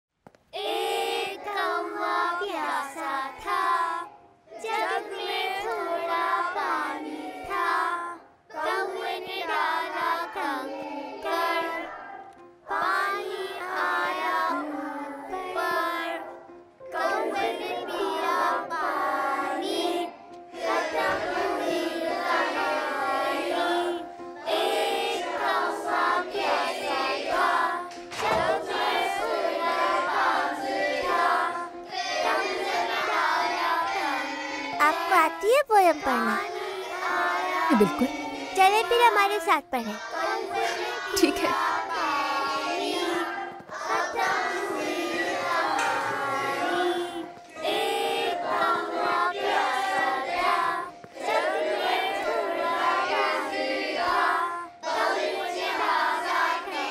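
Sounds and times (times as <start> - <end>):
children singing: 0.6 - 56.9.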